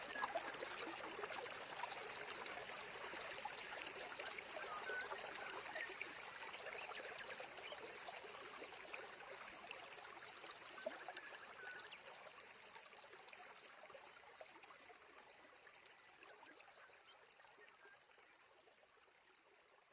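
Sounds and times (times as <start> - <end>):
stream water trickling and splashing: 0.0 - 19.9.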